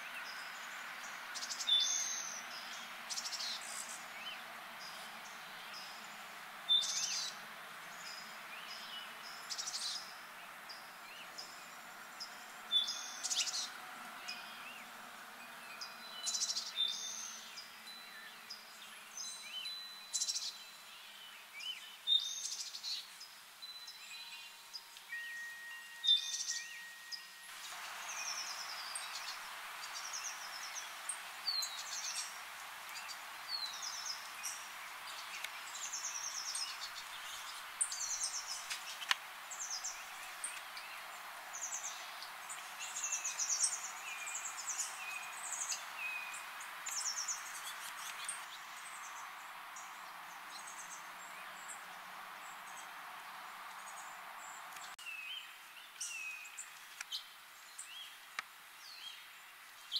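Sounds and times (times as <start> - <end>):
outdoor background hiss: 0.0 - 59.9
songbirds chirping and trilling: 0.0 - 59.9.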